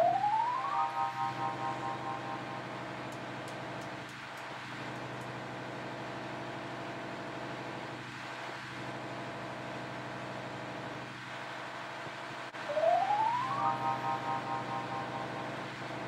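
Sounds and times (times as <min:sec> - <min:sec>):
engine-room machinery hum: 0:00.0 - 0:16.0.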